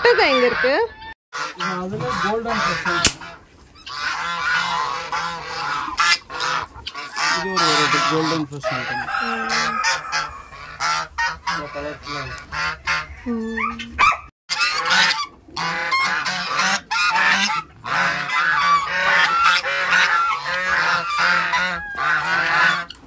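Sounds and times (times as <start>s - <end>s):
geese honking: 0.0s - 23.0s.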